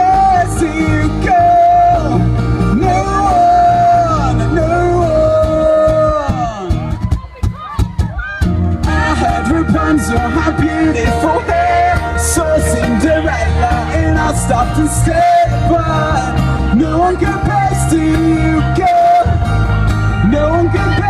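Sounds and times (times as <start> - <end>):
pop-rock band playing: 0.0 - 21.0.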